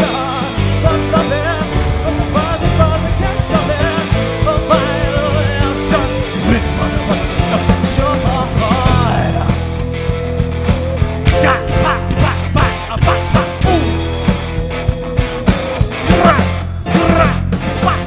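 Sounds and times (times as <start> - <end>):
man singing: 0.0 - 10.0, 10.9 - 14.3, 14.9 - 18.0
live rock band playing: 0.0 - 18.0.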